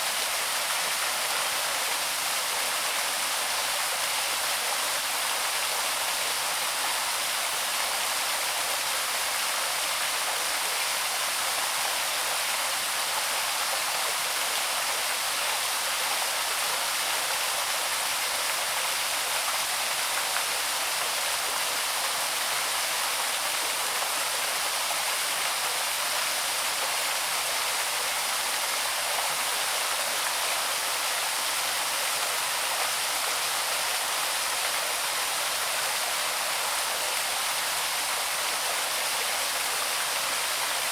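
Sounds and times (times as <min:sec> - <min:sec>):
waterfall over rocks: 0:00.0 - 0:40.9.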